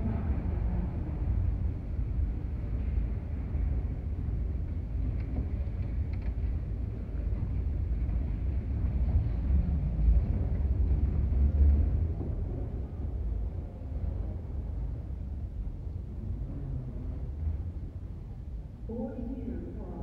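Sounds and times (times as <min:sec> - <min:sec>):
escalator deep rumble: 0:00.0 - 0:20.0.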